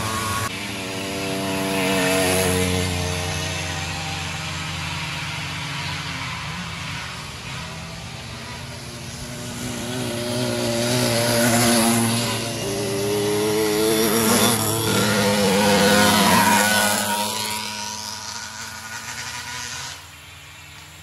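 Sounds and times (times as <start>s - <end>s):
two-stroke engines passing by: 0.0s - 21.0s.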